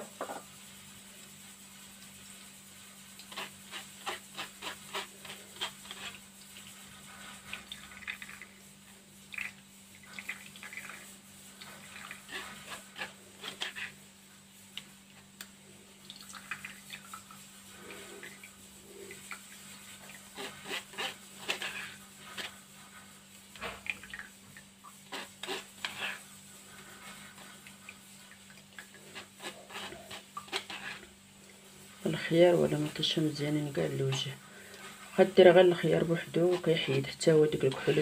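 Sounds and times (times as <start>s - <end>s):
spoon scraping pulp in sieve: 1.2s - 38.0s.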